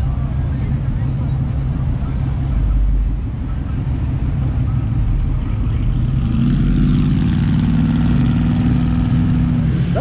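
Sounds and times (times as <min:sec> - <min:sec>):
truck engines running: 0:00.0 - 0:10.0.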